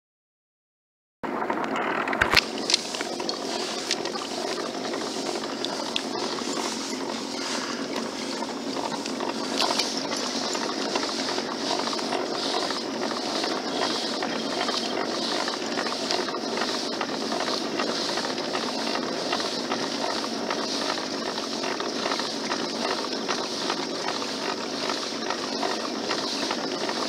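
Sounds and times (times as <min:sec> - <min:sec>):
pedal boat water churning: 0:01.9 - 0:27.0.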